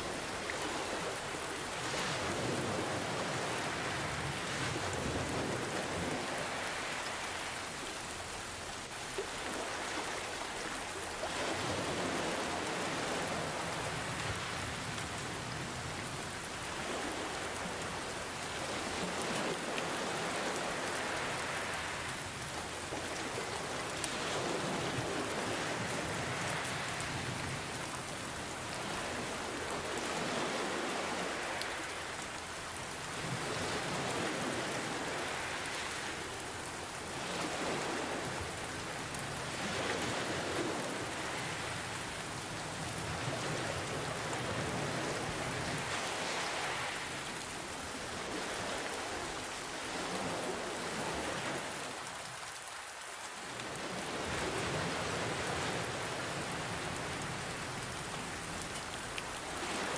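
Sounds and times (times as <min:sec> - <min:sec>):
ocean waves washing in: 0:00.0 - 0:59.9
steady rain: 0:00.0 - 0:59.9.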